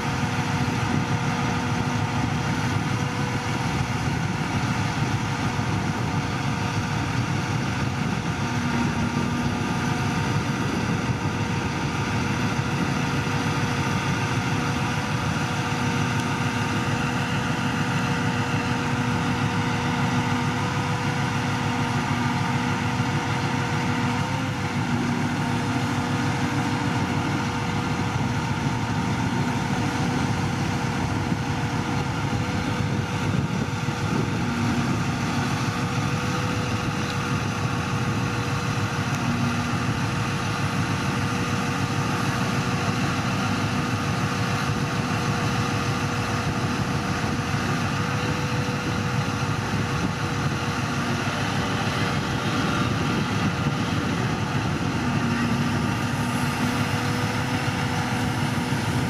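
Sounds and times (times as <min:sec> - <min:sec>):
constant whine: 0:00.0 - 0:59.0
diesel engine running: 0:00.0 - 0:59.0.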